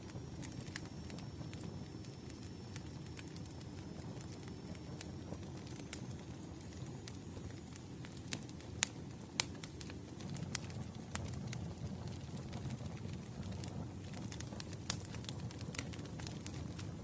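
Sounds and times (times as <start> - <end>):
campfire crackling and popping: 0.0 - 17.0
low rumble of burning logs: 0.0 - 17.0.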